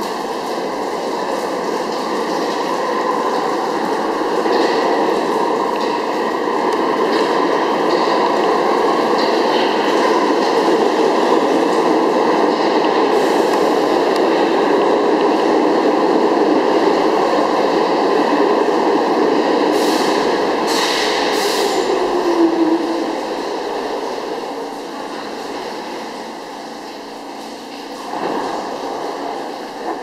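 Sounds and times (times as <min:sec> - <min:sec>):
subway train wheels rumbling: 0:00.0 - 0:30.0.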